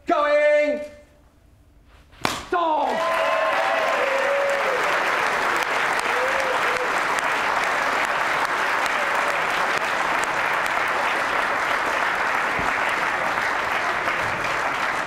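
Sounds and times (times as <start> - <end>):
audience applauding: 2.9 - 15.0.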